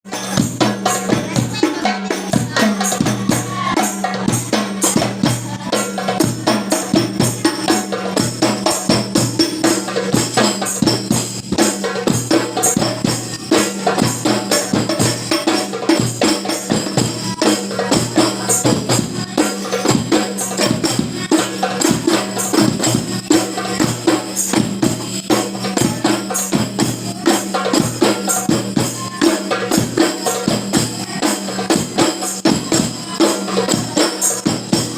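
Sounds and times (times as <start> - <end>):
frame drums beaten fast: 0.0 - 34.9.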